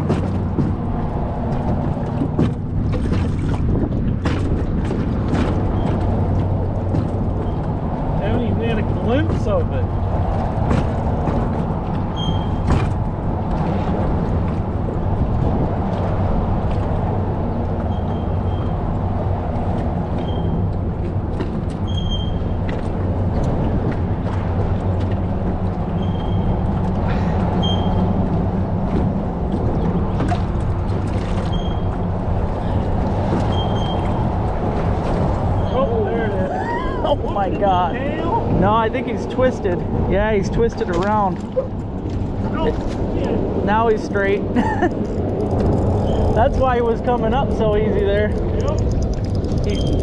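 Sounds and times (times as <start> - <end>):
boat motor humming: 0.0 - 50.0.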